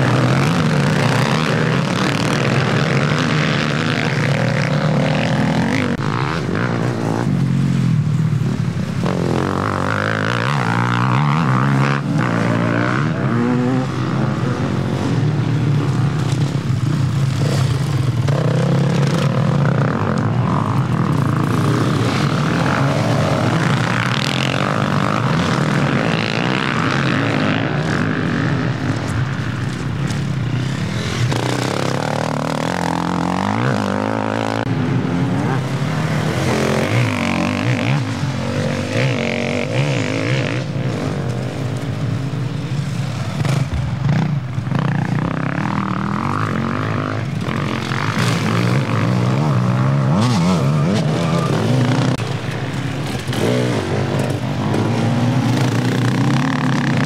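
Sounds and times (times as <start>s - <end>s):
racing vehicle engines revving: 0.0s - 57.0s.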